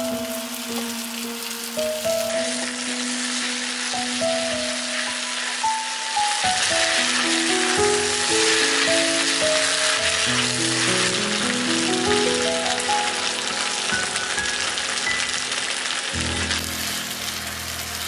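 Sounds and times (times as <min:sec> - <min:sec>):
food sizzling in oil: 0:00.0 - 0:18.0
soft melodic music: 0:00.0 - 0:18.0.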